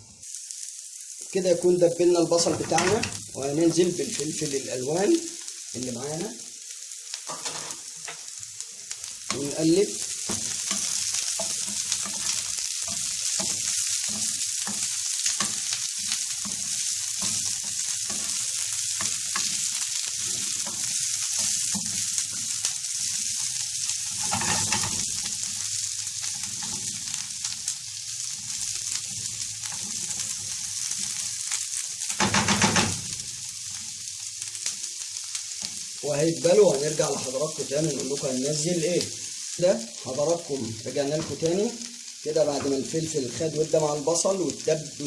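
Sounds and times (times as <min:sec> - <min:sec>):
vegetables sizzling in a pan: 0:00.0 - 0:45.0.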